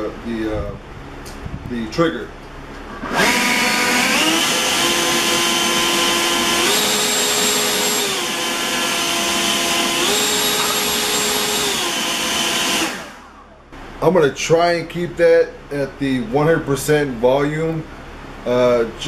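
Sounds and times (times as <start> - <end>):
leaf blower fan whine: 0.0 - 19.0.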